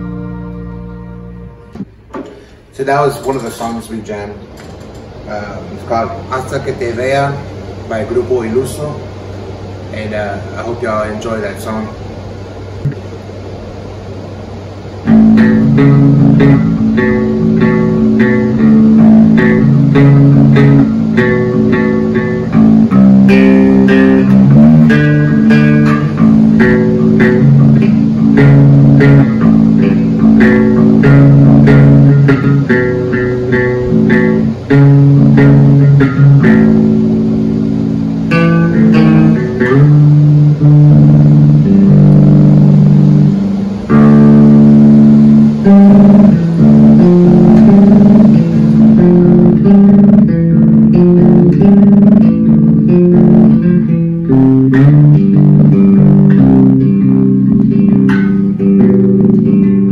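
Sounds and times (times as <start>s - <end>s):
electric bass guitar: 0.0s - 59.9s.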